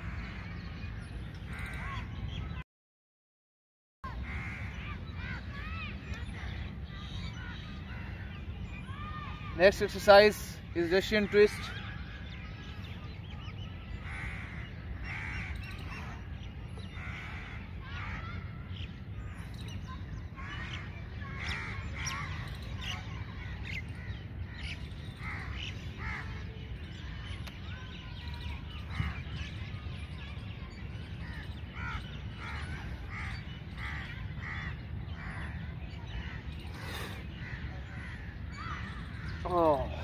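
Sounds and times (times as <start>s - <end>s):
birds calling: 0.0s - 2.6s, 4.1s - 40.0s.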